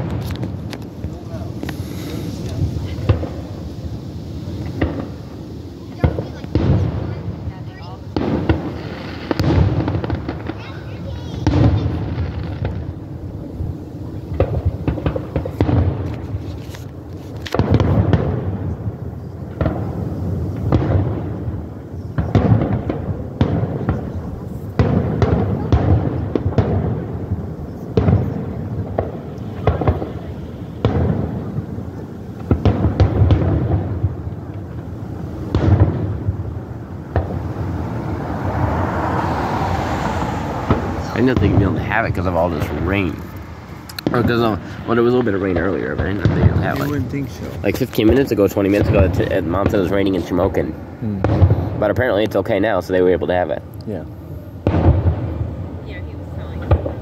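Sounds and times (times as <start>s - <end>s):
fireworks bursting bangs: 0.0s - 57.0s.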